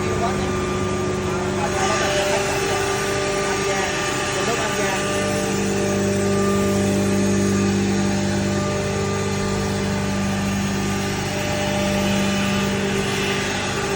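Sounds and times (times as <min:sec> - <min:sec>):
wood router machine humming: 0:00.0 - 0:13.9.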